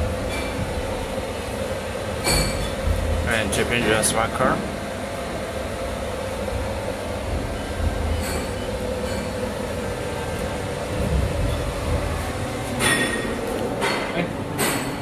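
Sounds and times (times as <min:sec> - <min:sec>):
industrial machinery drone: 0:00.0 - 0:15.0.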